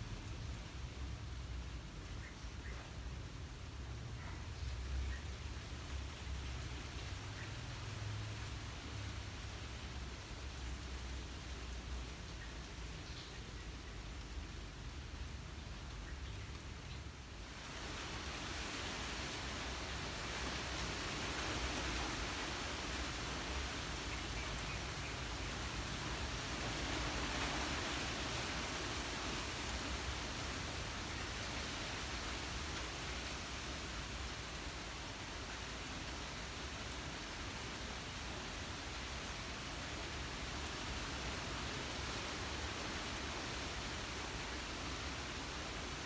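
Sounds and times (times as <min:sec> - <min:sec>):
breeze rustling through trees: 0:00.0 - 0:46.0.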